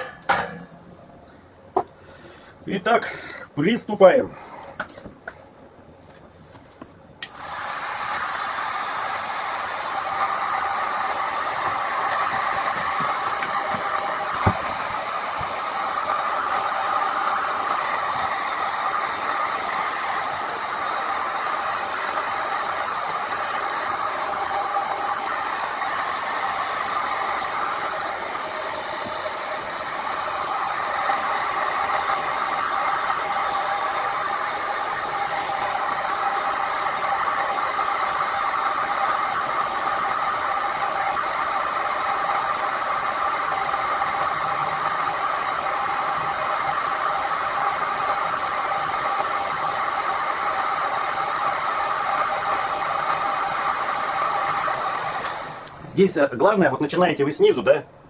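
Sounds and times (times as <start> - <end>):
heat gun blowing air: 6.5 - 56.0.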